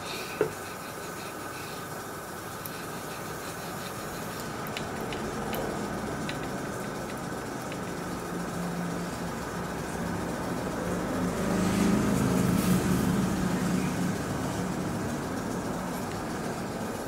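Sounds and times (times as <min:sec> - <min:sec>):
compressor motor hum: 0:00.0 - 0:17.0.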